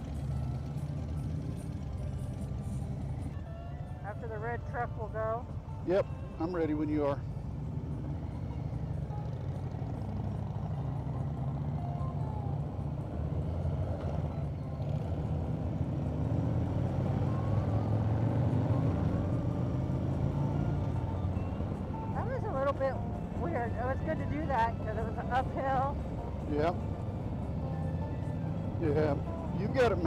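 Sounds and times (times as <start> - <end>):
motorcycle engines accelerating: 0.0 - 3.4, 6.6 - 30.0.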